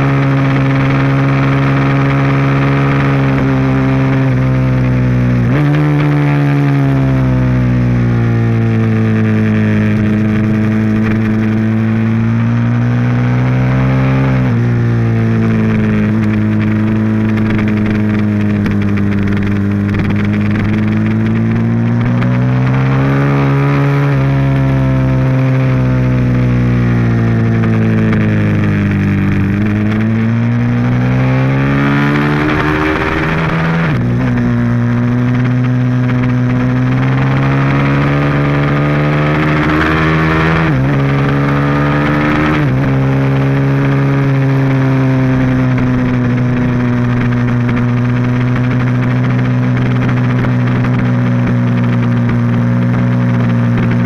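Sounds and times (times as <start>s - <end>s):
motorcycle engine at speed: 0.0s - 54.0s
rushing wind: 8.7s - 25.3s, 26.2s - 54.0s.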